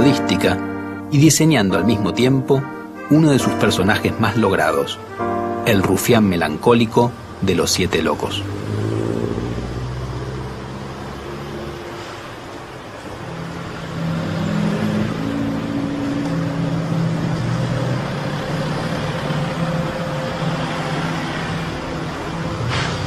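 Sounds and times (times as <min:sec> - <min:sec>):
road traffic: 0:00.0 - 0:23.0.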